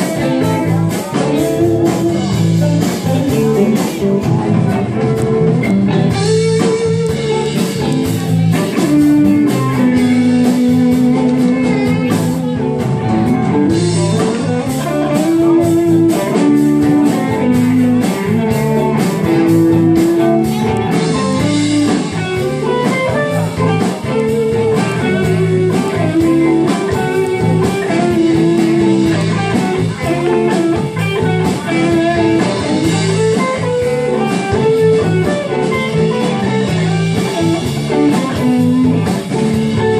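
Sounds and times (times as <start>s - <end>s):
blues-rock band playing: 0.0s - 39.9s
electric guitar lead: 0.0s - 39.9s.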